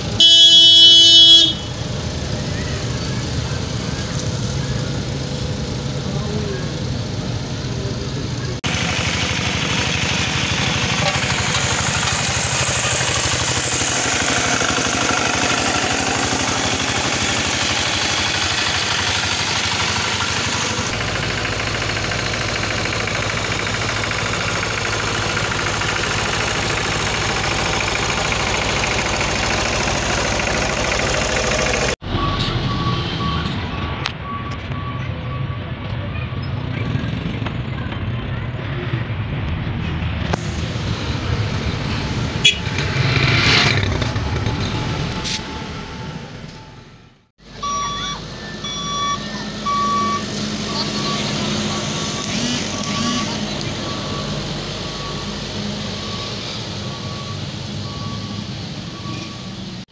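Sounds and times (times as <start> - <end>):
road roller diesel engines: 0.0 - 59.9.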